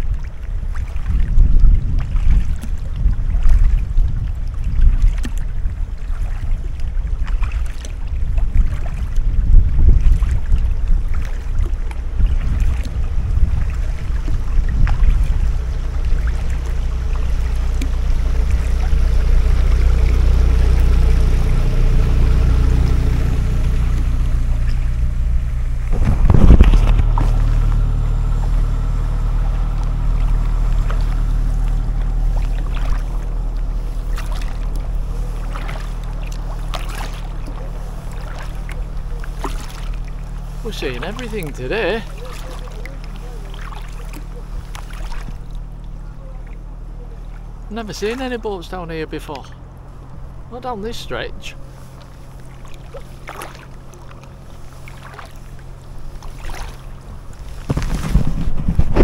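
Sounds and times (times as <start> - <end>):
wind rumbling on microphone: 0.0 - 48.3, 51.5 - 59.0
motor boat engine running: 0.0 - 59.0.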